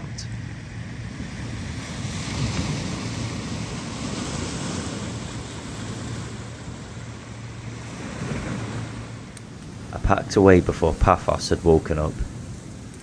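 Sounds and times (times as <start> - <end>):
low wind rumble on microphone: 0.0 - 13.0
sea surf washing onto rocks: 1.1 - 13.0.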